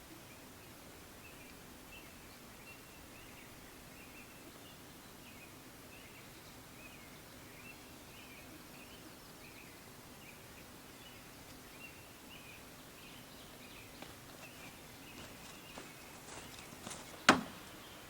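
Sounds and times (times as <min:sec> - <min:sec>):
soft steady hiss: 0:00.0 - 0:18.0.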